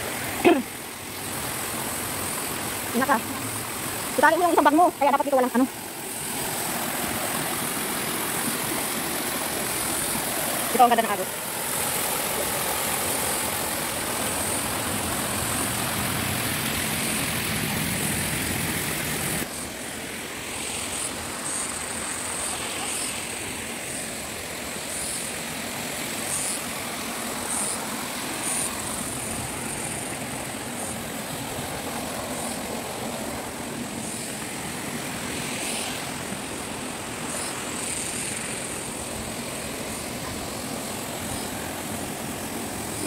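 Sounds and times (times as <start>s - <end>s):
stream rushing: 0.0s - 43.0s.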